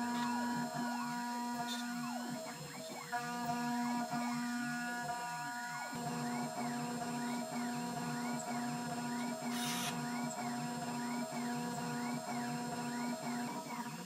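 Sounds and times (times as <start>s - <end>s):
milling machine cutting metal: 1.2s - 14.0s.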